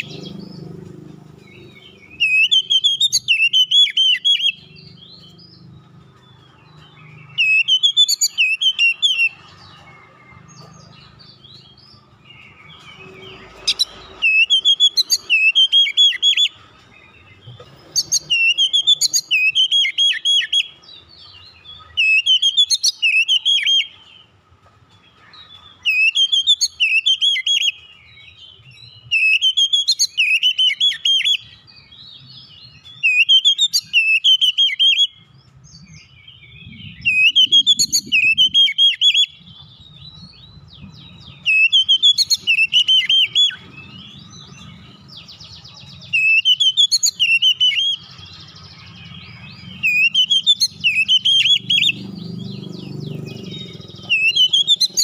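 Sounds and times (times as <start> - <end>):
bird singing whistled trills: 0.0 - 0.7, 1.4 - 9.8, 10.4 - 24.3, 25.3 - 55.0.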